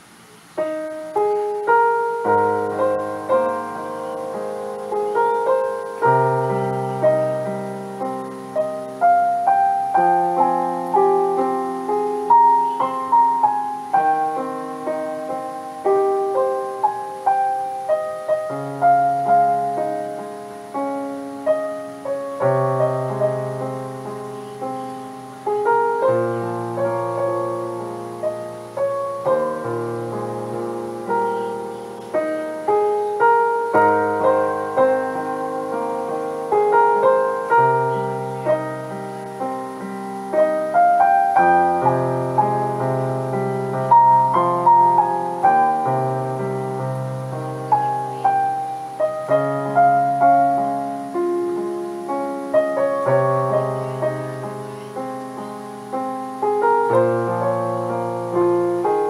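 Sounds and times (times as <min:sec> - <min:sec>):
solo piano melody: 0:00.0 - 0:59.0.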